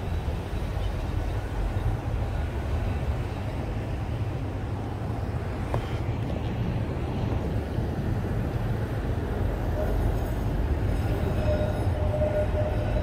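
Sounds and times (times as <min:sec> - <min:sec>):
tram running rumble: 0:00.0 - 0:13.0.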